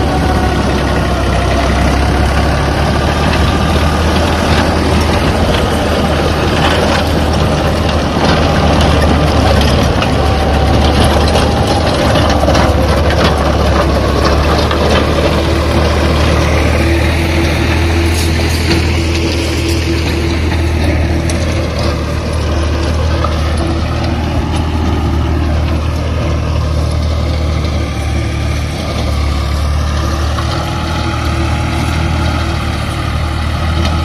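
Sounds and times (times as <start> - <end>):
tractor engine humming: 0.0 - 34.0.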